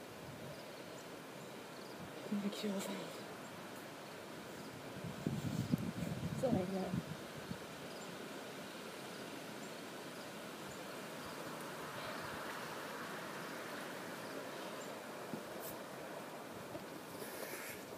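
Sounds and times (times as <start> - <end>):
faint outdoor background hiss: 0.0 - 17.9.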